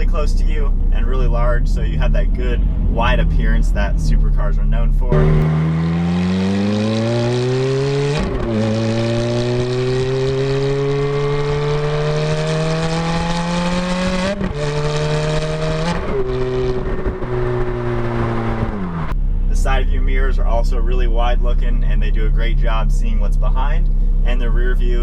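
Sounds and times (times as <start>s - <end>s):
sports car engine accelerating: 0.0s - 20.9s.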